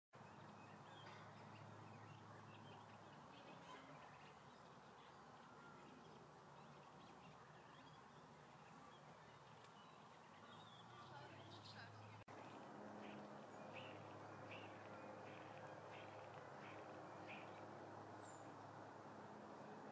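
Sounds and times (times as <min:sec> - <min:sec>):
faint outdoor background noise: 0:00.2 - 0:19.9.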